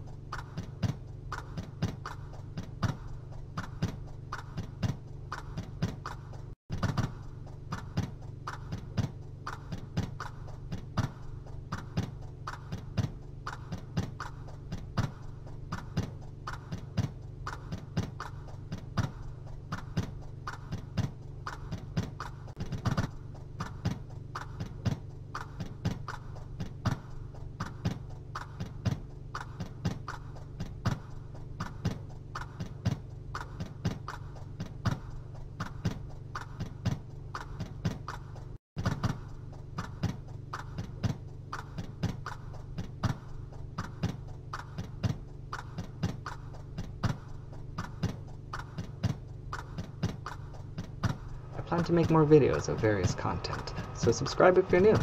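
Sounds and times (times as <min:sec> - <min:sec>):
regular ticking: 0:00.0 - 0:55.0
steady low hum: 0:00.0 - 0:55.0.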